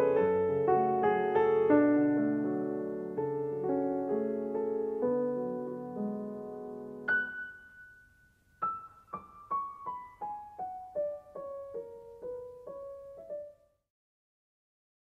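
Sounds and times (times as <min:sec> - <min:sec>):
soft piano music: 0:00.0 - 0:13.9.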